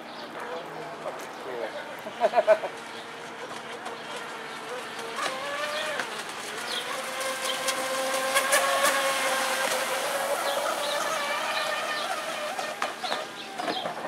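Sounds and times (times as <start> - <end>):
rc boat electric motor whining: 2.2 - 14.0.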